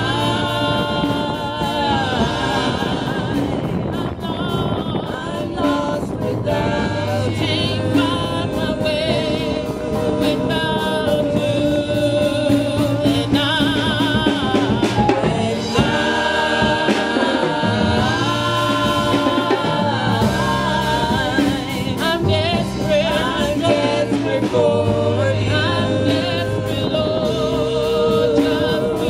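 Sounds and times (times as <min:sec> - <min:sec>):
gospel singing: 0:00.0 - 0:29.0
musical accompaniment: 0:00.0 - 0:29.0.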